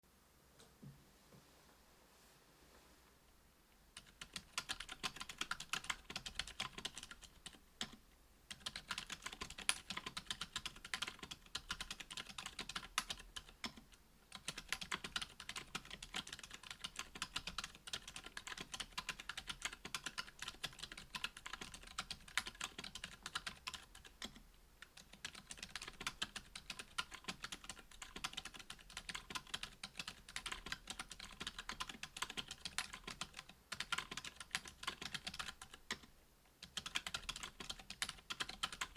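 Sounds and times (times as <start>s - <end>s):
fast typing on mechanical keyboard: 4.0s - 38.9s.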